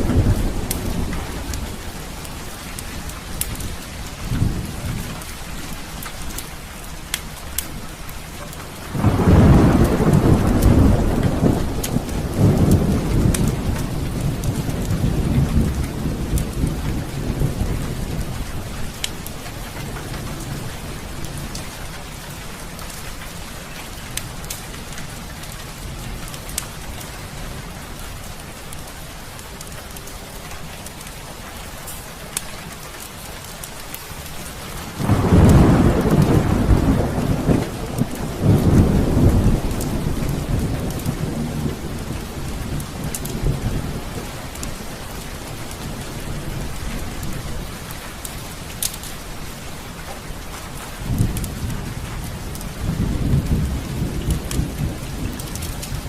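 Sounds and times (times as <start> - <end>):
thunder rumbling: 0.0 - 28.4, 33.7 - 56.0
fireplace fire crackling: 0.0 - 56.0
heavy rain: 0.0 - 56.0.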